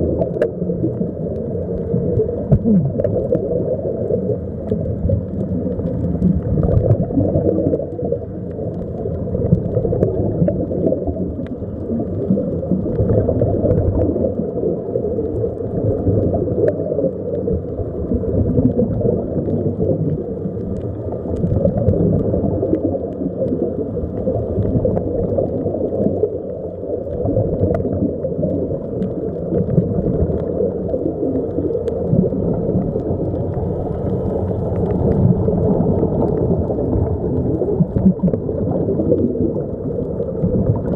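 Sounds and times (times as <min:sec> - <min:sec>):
air bubbles gurgling: 0:00.0 - 0:40.9
underwater low rumble: 0:00.0 - 0:40.9
faint ticks: 0:00.1 - 0:40.9.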